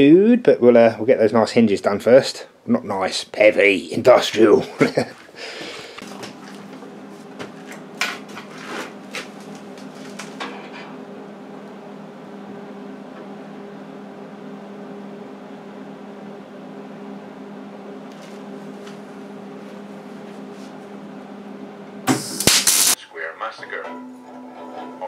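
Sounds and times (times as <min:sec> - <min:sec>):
welder electrical hum and fan: 0:00.0 - 0:25.0.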